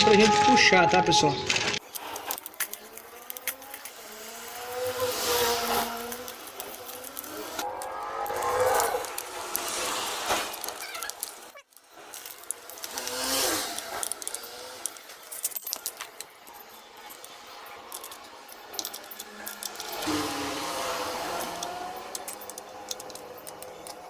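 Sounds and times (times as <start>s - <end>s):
scraping: 1.6s - 24.0s
metal tools and parts clinking: 1.8s - 24.0s.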